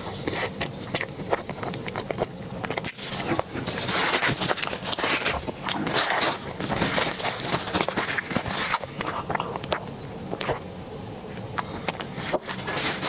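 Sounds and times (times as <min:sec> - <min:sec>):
wet chewing: 0:00.0 - 0:10.7, 0:11.4 - 0:13.0.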